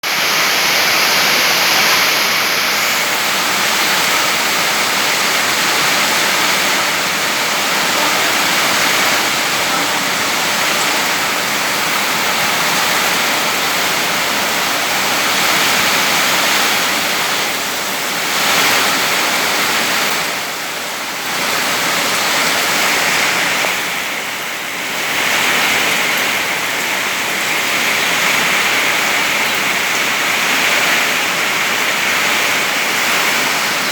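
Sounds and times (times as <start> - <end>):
heavy rain in strong wind: 0.0 - 33.9.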